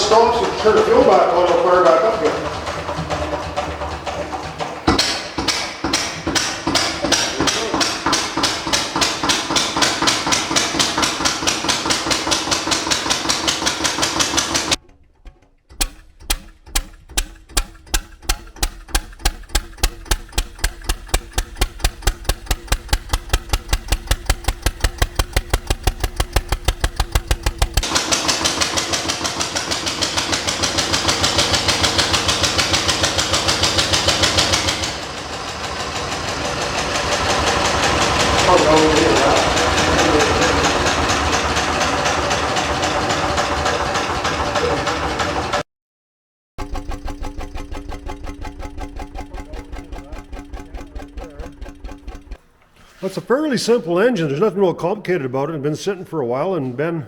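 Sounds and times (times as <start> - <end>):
stationary engine running: 0.0 - 45.6, 46.6 - 52.7.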